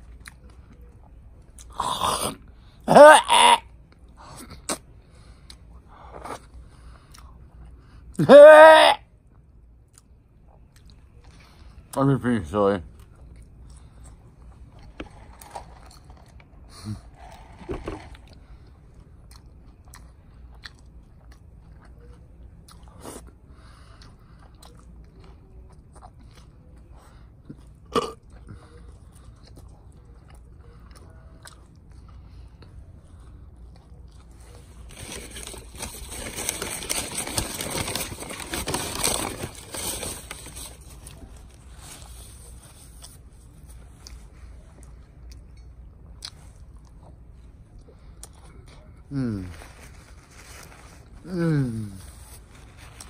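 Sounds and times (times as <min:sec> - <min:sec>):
man chewing with mouth open: 0:00.0 - 0:02.9, 0:03.7 - 0:08.2, 0:09.2 - 0:11.9, 0:12.9 - 0:38.2, 0:40.7 - 0:49.1.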